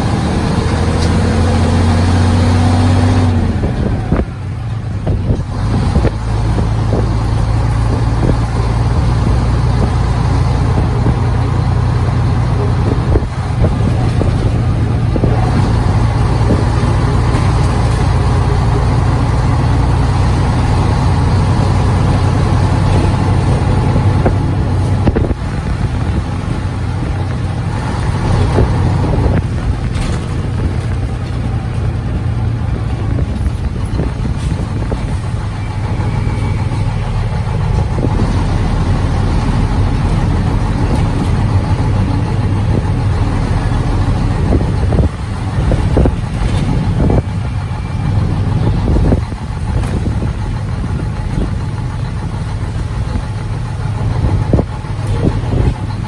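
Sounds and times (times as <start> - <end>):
engine whine: 0.0 - 56.0
vehicle cabin road drone: 0.0 - 56.0.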